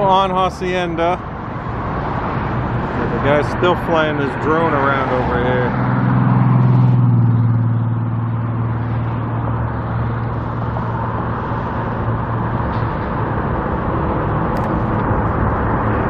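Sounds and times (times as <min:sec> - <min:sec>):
steady traffic noise: 0:00.0 - 0:16.0
vehicle passing: 0:00.9 - 0:16.0.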